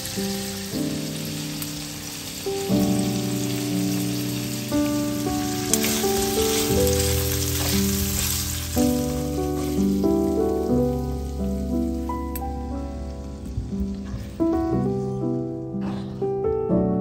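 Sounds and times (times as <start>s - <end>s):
shrimp sizzling in oil: 0.0s - 14.2s
instrumental background music: 0.0s - 17.0s.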